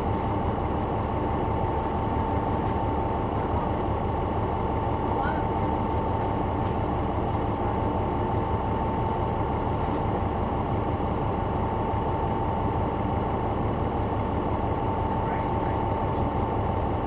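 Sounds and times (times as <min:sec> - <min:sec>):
constant high whine: 0:00.0 - 0:17.0
diesel bus engine rumbling: 0:00.0 - 0:17.0.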